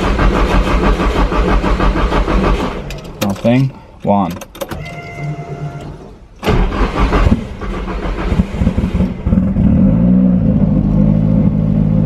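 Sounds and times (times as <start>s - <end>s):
car engine revving: 0.0s - 3.4s, 5.6s - 12.0s
car engine idling: 0.0s - 4.8s, 5.5s - 12.0s
car engine cranking on starter: 0.0s - 9.7s.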